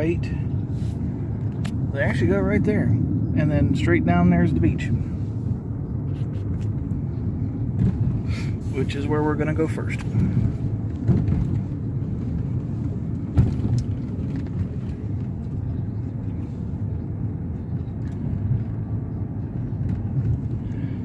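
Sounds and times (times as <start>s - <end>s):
car cabin road and engine rumble: 0.0s - 21.0s.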